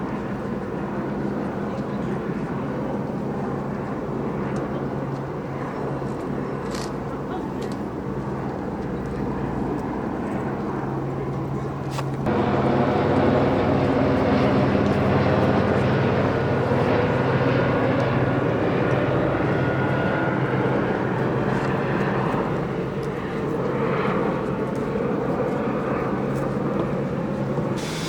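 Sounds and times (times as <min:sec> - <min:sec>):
steady engine drone: 0:00.0 - 0:28.0.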